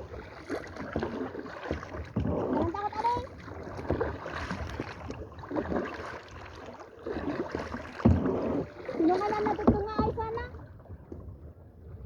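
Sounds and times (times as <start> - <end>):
kayak paddle splashing in water: 0.0 - 11.3.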